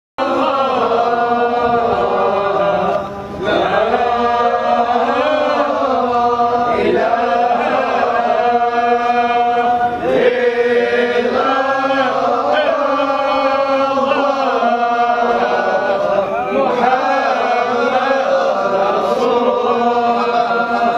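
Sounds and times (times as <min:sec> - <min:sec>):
men chanting together: 0:00.2 - 0:20.9.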